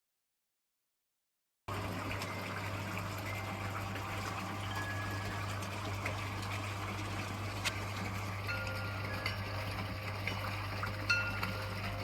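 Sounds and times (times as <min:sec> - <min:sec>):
pond pump humming: 0:01.7 - 0:12.0
running water: 0:01.7 - 0:12.0.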